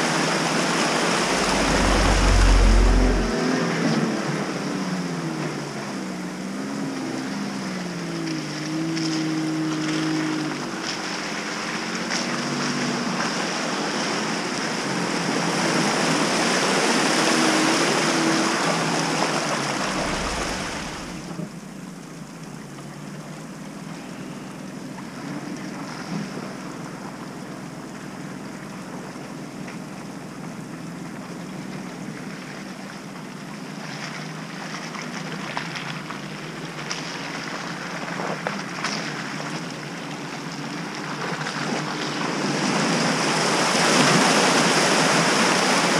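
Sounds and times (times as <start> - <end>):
engine running under water: 0.0 - 45.9
water churning and splashing: 0.0 - 45.9.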